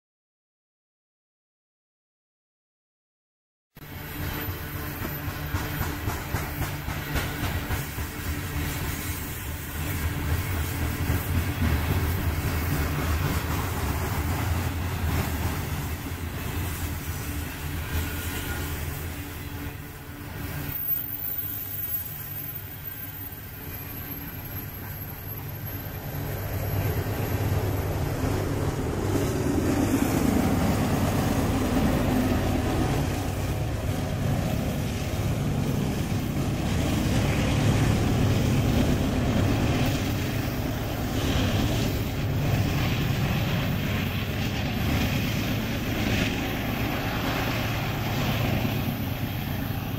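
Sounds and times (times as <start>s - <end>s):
diesel locomotive engine drone: 3.8s - 49.9s
rail and wheel noise: 3.8s - 49.9s.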